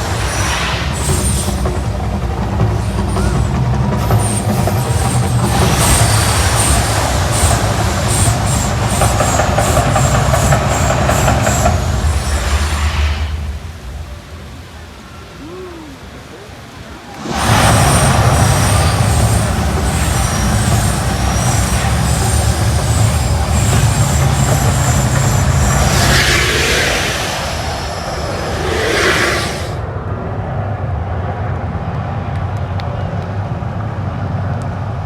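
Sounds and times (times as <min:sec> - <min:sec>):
deep loud eruption rumble: 0:00.0 - 0:15.3, 0:17.0 - 0:30.4.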